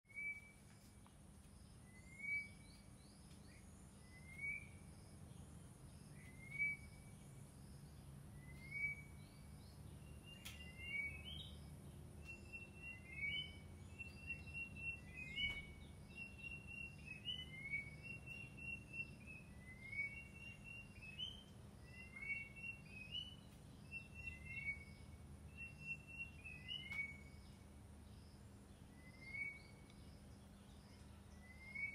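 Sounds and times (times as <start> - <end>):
low steady hum: 0.3 - 31.9.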